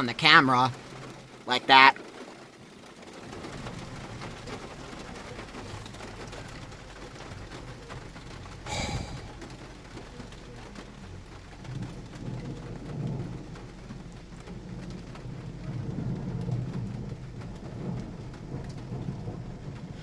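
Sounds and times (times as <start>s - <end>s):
heavy rain falling: 0.0s - 20.0s
thunder rumbling: 3.0s - 20.0s.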